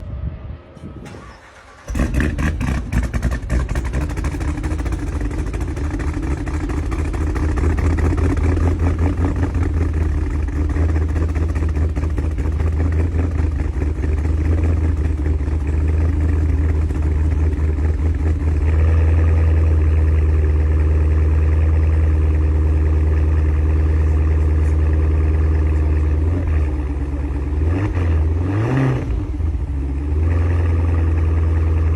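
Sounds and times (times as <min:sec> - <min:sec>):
car engine idling roughly: 0:01.2 - 0:27.6, 0:30.5 - 0:31.9.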